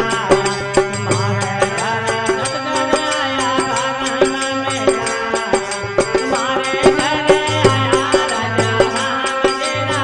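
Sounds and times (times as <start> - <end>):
drum beating steadily: 0.0 - 10.0.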